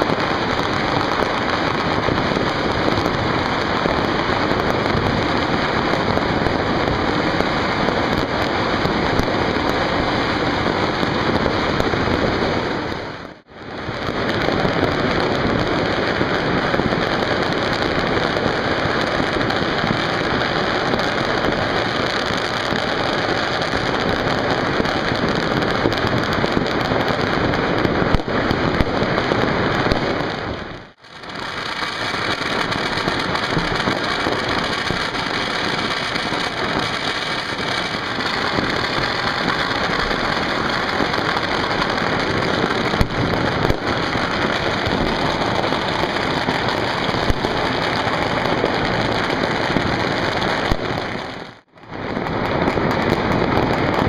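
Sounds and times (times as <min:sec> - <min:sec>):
firecrackers crackling: 0:00.0 - 0:54.0
sharp firework bangs: 0:00.0 - 0:54.0.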